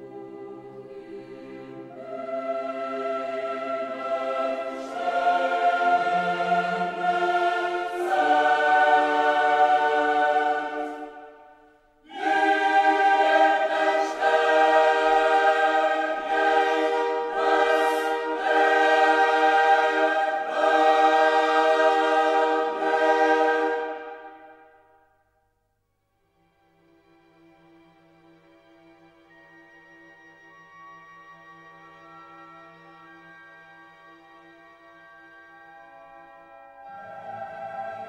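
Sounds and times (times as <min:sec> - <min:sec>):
choir singing sustained chords: 0:00.0 - 0:25.2, 0:31.1 - 0:38.0.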